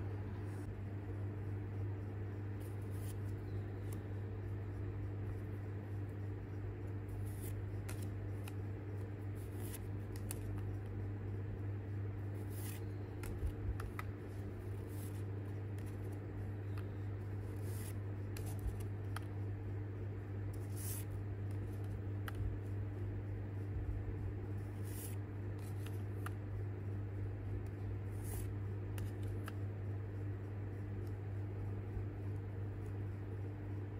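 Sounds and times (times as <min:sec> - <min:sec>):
cards scraping and flicking: 0:02.5 - 0:11.4, 0:12.0 - 0:19.5, 0:20.4 - 0:23.7, 0:24.4 - 0:26.6, 0:27.5 - 0:33.0.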